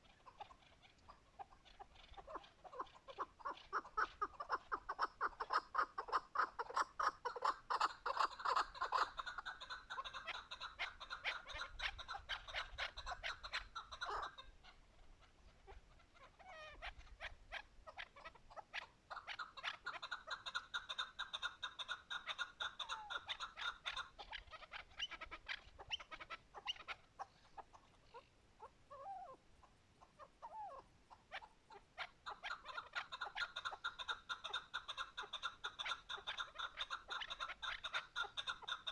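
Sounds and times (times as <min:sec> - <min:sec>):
partridge clucking calls: 0:00.0 - 0:38.9.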